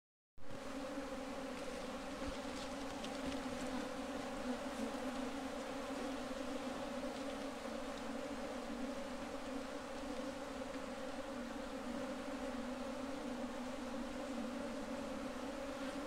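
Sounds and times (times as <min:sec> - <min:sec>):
bees buzzing: 0:00.5 - 0:16.0.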